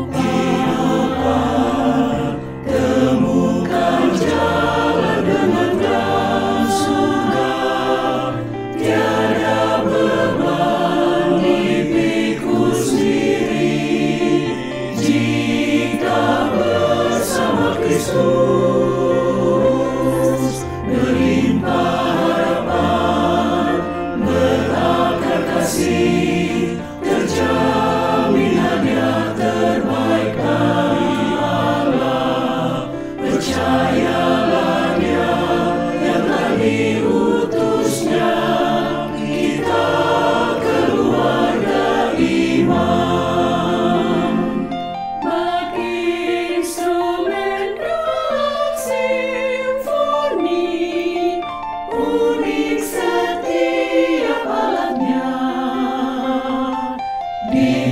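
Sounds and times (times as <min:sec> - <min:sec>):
choir singing a hymn: 0:00.0 - 0:57.9
piano accompaniment: 0:00.0 - 0:57.9.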